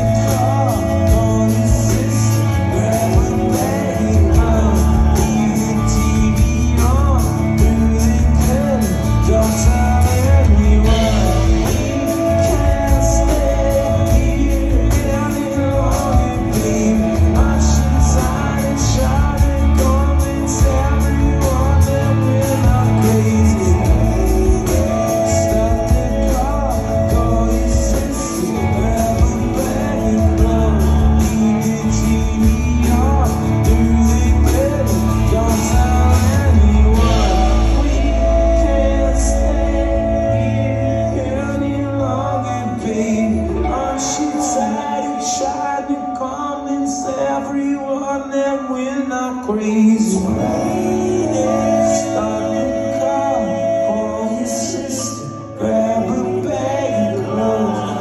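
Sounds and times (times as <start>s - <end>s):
acoustic and electric guitars: 0.0s - 58.0s
bass: 0.0s - 58.0s
man singing: 0.0s - 58.0s.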